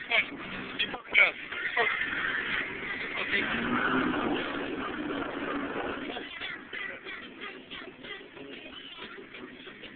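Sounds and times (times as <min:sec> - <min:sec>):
car engine and exhaust running: 0:00.0 - 0:09.9.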